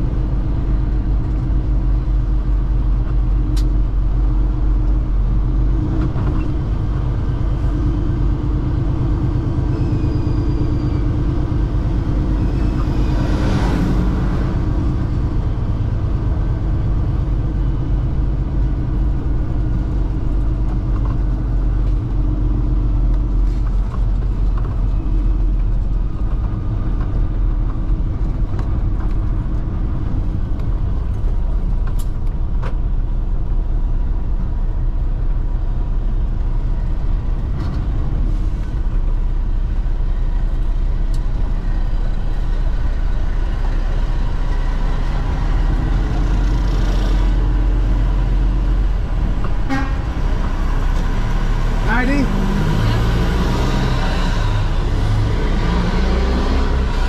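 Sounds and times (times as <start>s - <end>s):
diesel truck engine rumble: 0.0s - 57.0s.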